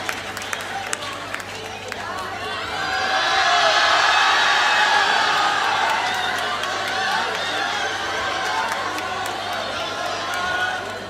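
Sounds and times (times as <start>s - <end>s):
audience shouting and cheering: 0.0s - 11.0s.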